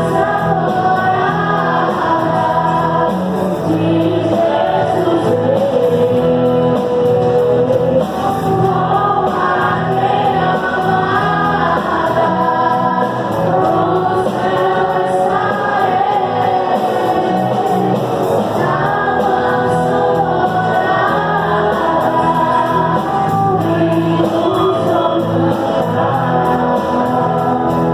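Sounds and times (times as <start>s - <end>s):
choir singing gospel music: 0.0s - 27.9s.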